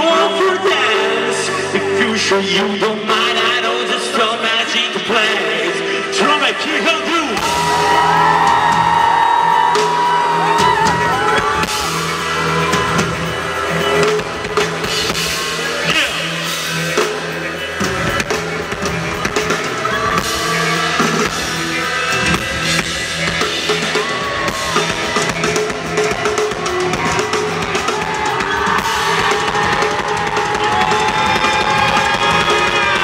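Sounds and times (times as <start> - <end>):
electric guitars sliding notes: 5.3 - 33.0
drum kit: 6.6 - 33.0.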